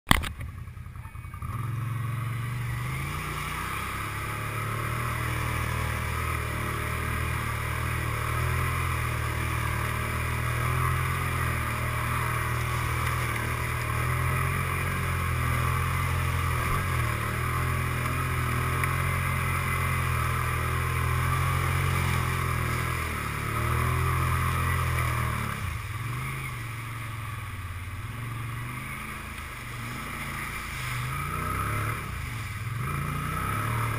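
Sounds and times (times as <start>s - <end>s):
atv engine running: 0.1s - 33.9s
water sloshing and spraying: 2.1s - 33.9s.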